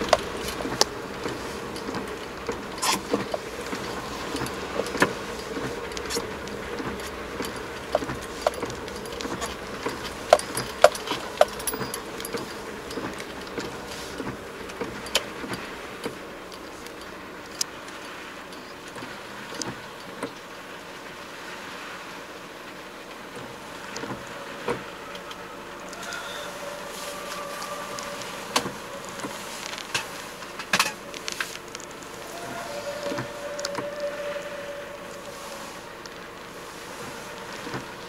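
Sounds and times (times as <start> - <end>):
engine and wet road rumble: 0.0 - 38.0
raindrops ticking on windshield: 0.0 - 38.0.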